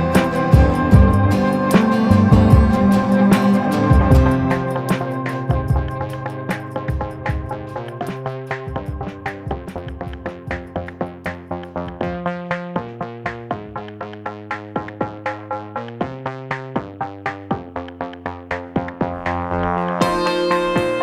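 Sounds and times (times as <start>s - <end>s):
drum machine beat: 0.0s - 21.0s
synthesizer chords: 0.0s - 21.0s.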